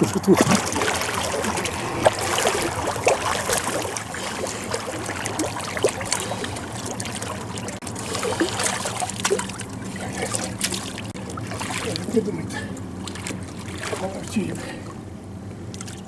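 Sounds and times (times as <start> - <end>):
water splashing and trickling: 0.0 - 15.0, 15.6 - 16.0
faint low hum: 0.0 - 16.0.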